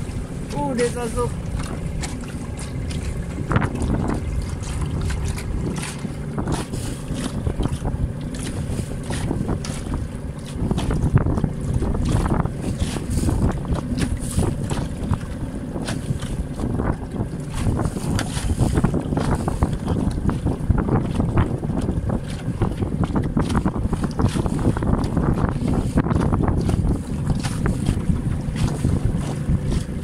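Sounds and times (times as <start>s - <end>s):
water splashing against boat hull: 0.0s - 30.0s
wind over microphone: 0.0s - 30.0s.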